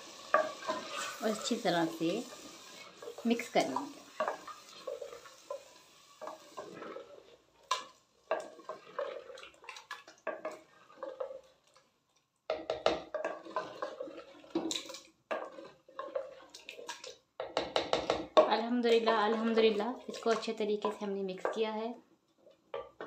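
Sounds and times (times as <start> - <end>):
wooden spoon scraping clay pot: 0.2 - 11.7, 12.6 - 23.0.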